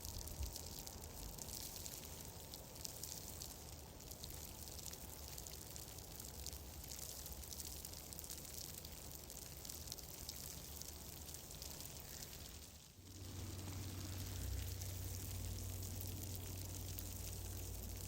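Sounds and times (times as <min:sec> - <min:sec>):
low rumble of fire: 0:00.0 - 0:18.0
wood fire crackling softly: 0:00.0 - 0:18.0.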